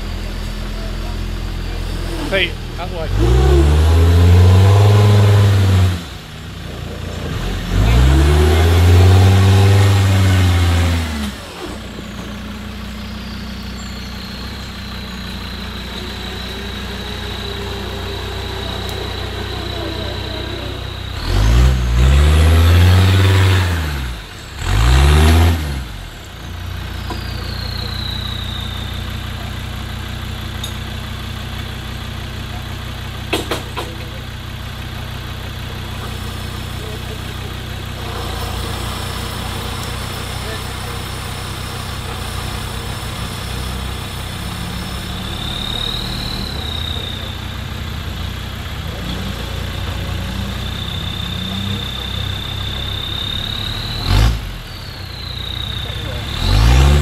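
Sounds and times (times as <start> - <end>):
engine revving and idling: 0.0 - 57.0.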